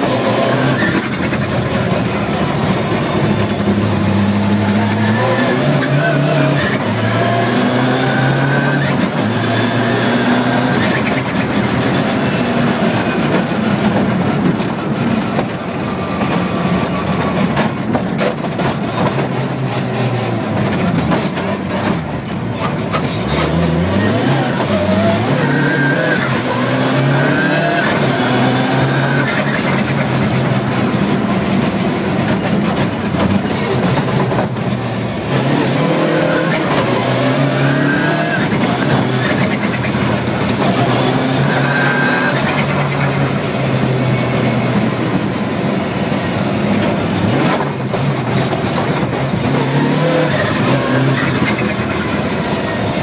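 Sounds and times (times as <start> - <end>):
rally car engine revving: 0.0 - 53.0
road and wind noise: 0.0 - 53.0.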